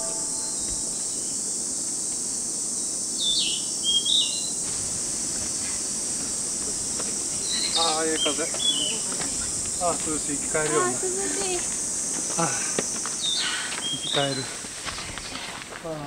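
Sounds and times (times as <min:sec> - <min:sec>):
birds chirping: 0:00.0 - 0:01.6, 0:03.2 - 0:15.8
high insect drone: 0:00.0 - 0:16.0.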